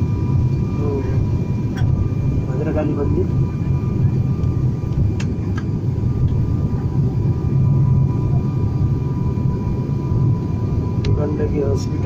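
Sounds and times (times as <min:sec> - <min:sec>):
engine and propeller drone: 0:00.0 - 0:12.0
faint steady whine: 0:00.0 - 0:12.0.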